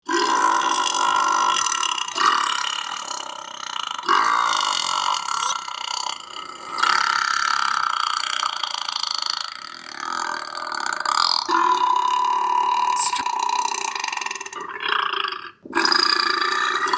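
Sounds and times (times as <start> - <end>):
long drawn-out burps: 0.0 - 16.9.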